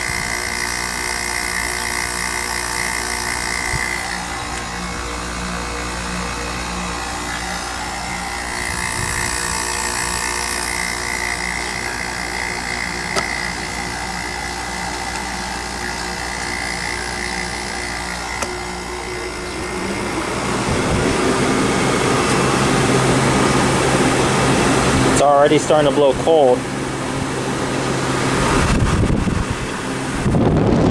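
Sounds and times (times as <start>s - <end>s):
faint high whine: 0.0s - 26.6s
window air conditioner running: 0.0s - 30.9s.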